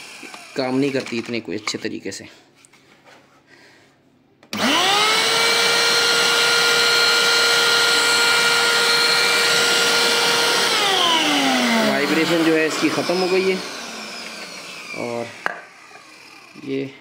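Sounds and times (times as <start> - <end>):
vacuum cleaner motor running: 0.0 - 1.2, 4.5 - 17.0.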